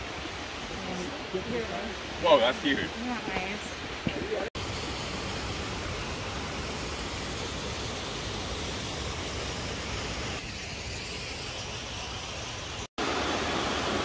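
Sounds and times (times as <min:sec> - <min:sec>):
waterfall rushing: 0:00.0 - 0:10.5, 0:11.2 - 0:14.0.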